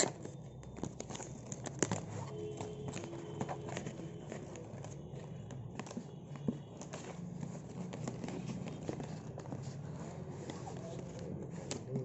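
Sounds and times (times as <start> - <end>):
packaging clicks and taps: 0.0 - 12.0
packaging rustling: 0.0 - 12.0.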